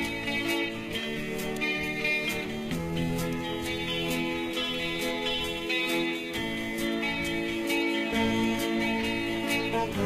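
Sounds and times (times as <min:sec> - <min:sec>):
band music with guitar: 0:00.0 - 0:10.0.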